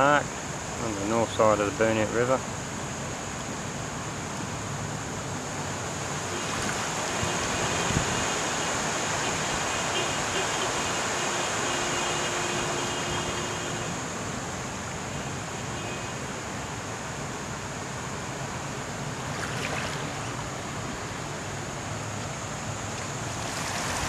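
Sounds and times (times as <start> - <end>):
floodwater rushing: 2.5 - 24.0.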